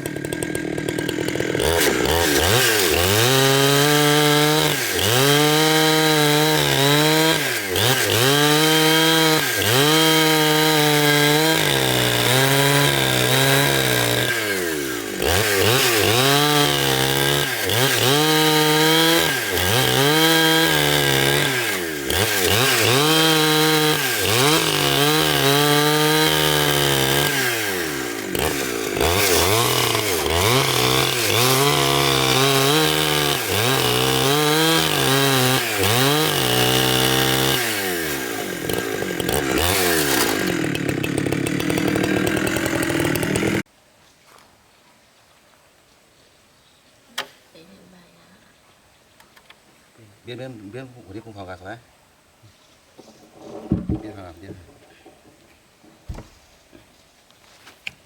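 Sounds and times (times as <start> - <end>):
chainsaw cutting wood: 0.0 - 43.7, 53.0 - 56.4.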